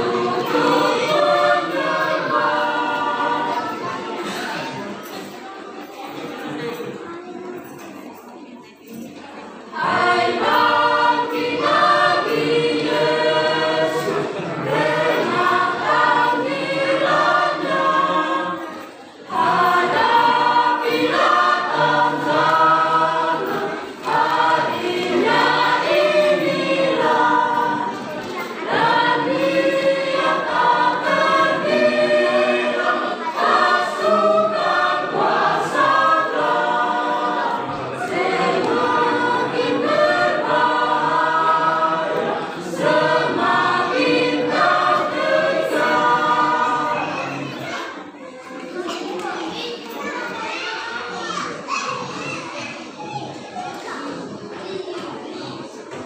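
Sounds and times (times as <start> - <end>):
mixed choir singing a hymn: 0.0 - 48.8.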